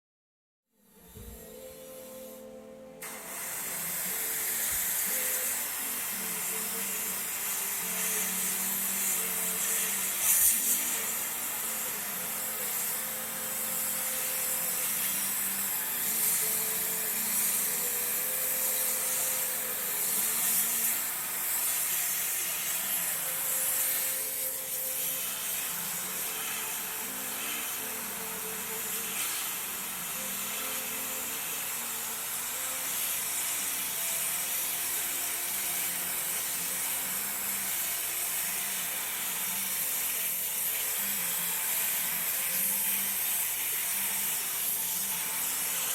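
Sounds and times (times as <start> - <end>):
spray hissing: 3.0 - 45.9.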